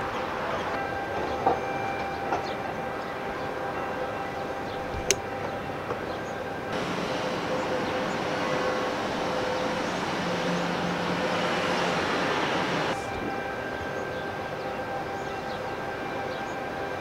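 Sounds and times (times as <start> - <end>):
machinery hum with held tones: 0.0 - 17.0.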